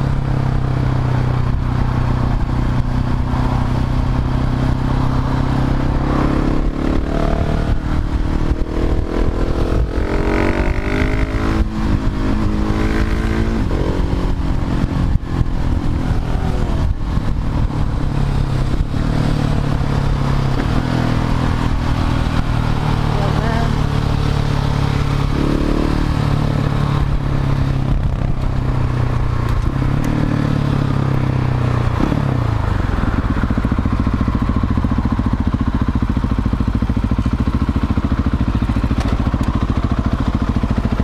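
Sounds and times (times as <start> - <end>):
motorcycle engine revving: 0.0 - 41.0
wind rush: 0.0 - 41.0.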